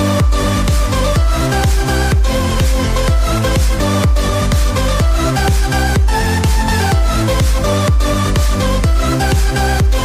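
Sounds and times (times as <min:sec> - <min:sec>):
kick-drum beat: 0:00.0 - 0:10.0.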